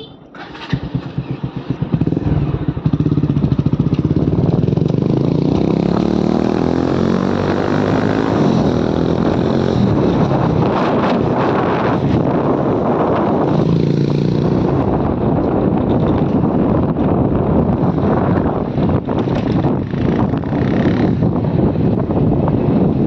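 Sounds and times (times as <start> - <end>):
motorcycle engine running: 0.4 - 23.0.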